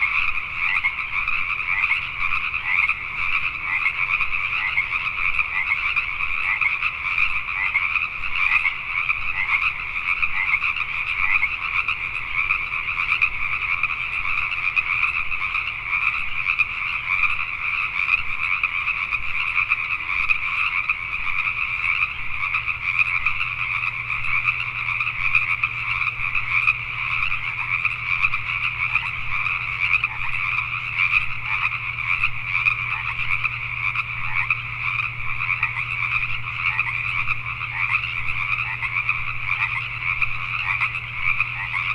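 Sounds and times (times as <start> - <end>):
chorus of frogs calling: 0.0 - 41.9.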